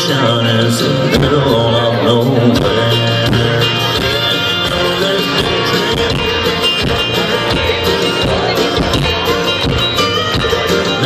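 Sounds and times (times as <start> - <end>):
live country band playing: 0.0 - 11.0
plucked banjo: 0.0 - 11.0.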